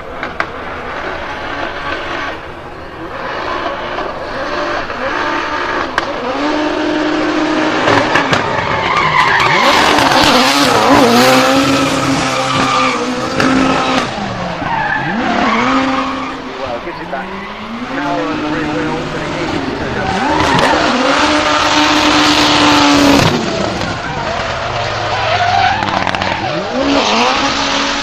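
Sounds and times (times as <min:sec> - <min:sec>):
car engine revving: 0:00.0 - 0:28.0
tyres squealing: 0:01.0 - 0:28.0.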